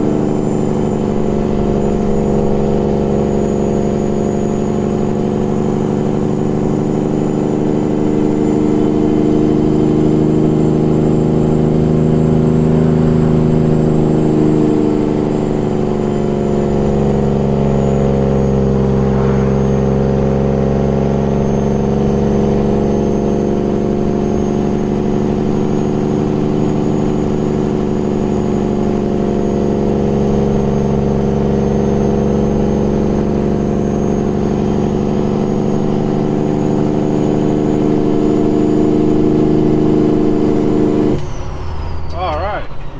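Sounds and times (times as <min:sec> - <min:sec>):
truck engine brake drone: 0:00.0 - 0:42.9.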